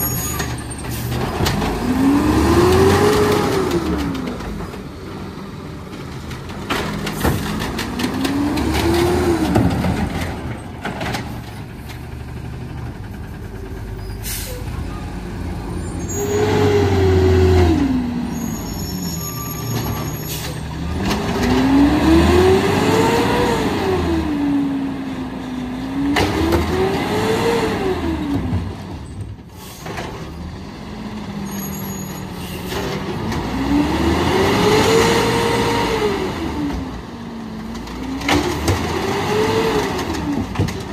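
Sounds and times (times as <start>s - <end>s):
truck engine revving: 0.9s - 11.3s, 12.0s - 28.8s, 32.7s - 40.9s.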